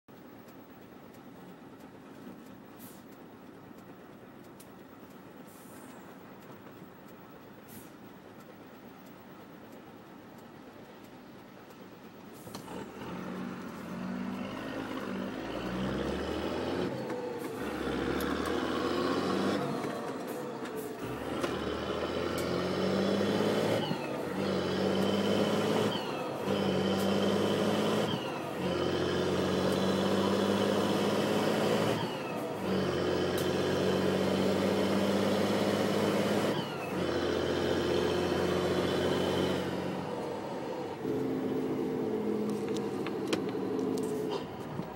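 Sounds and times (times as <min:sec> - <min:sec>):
diesel truck accelerating: 0:00.1 - 0:44.9.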